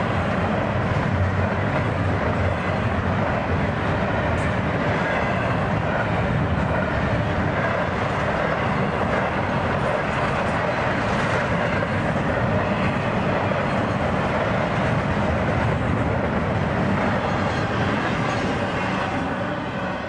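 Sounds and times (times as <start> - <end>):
train wheels running on rails: 0.0 - 20.0.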